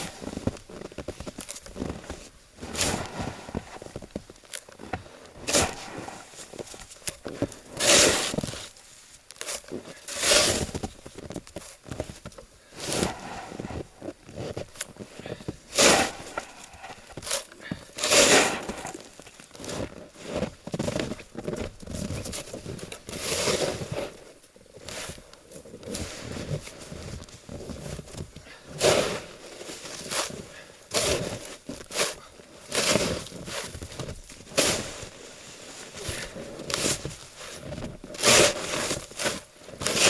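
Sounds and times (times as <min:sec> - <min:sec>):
shovel scraping packed snow: 0:00.0 - 0:08.8, 0:09.4 - 0:21.5, 0:22.1 - 0:40.0.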